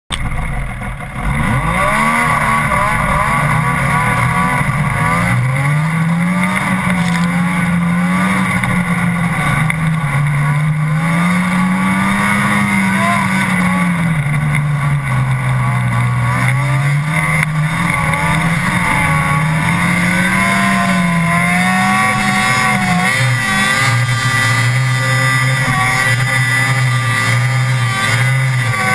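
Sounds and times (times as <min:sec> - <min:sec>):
snowmobile engine revving: 0:00.2 - 0:28.9.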